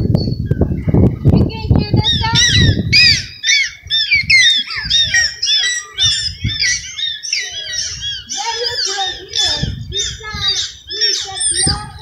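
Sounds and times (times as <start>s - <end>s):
dolphins squawking whistles: 2.1s - 12.0s.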